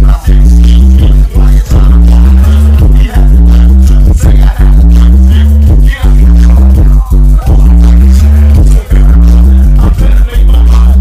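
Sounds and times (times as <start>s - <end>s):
bass-heavy hip-hop music: 0.0s - 11.0s.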